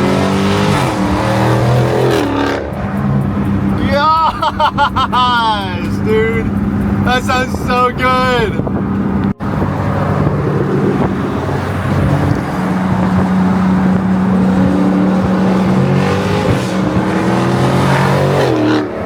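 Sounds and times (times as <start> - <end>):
car engine revving loud: 0.0 - 5.0, 8.6 - 19.0.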